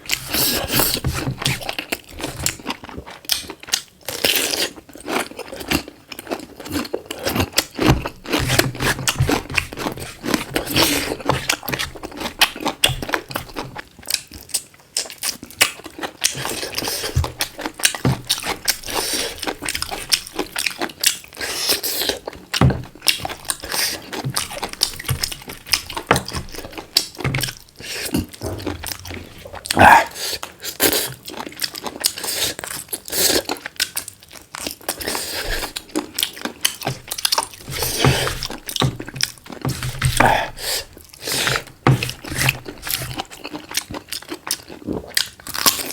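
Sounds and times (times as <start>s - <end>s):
chewing and crunching: 0.0s - 45.9s.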